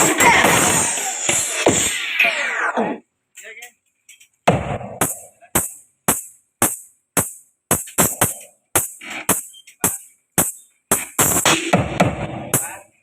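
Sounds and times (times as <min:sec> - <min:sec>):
dance music with drum-machine hits: 0:00.0 - 0:02.7, 0:04.4 - 0:13.0.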